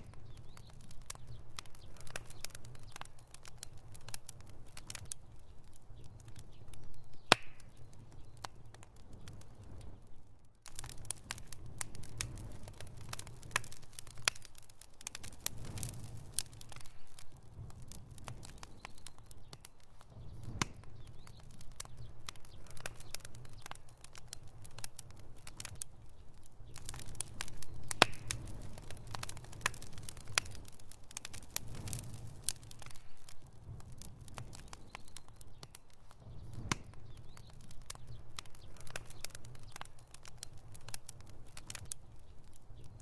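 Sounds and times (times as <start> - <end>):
bonfire crackling and popping: 0.0 - 43.0
low fire rumble: 0.0 - 43.0.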